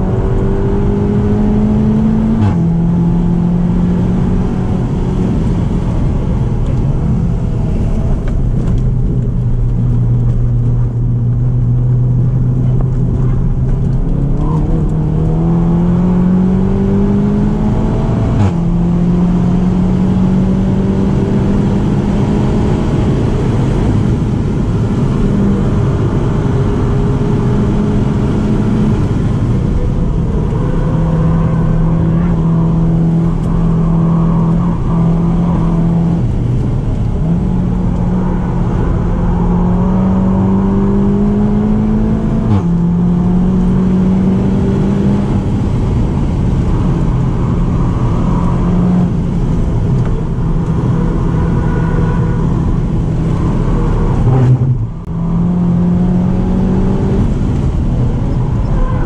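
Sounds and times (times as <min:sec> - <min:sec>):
car engine at high revs: 0:00.0 - 0:59.0
road and tyre noise: 0:00.0 - 0:59.0.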